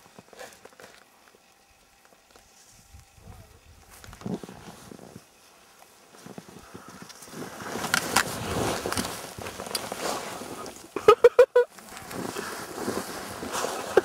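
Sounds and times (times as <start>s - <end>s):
skis sliding over snow: 0.0s - 11.0s, 11.6s - 14.0s.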